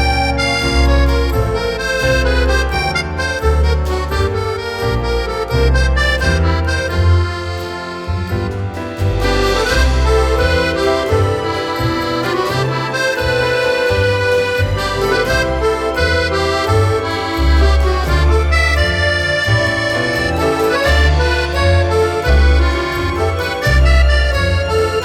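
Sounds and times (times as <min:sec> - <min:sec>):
accordion melody: 0:00.0 - 0:25.0
pulsing bass line: 0:00.0 - 0:25.0.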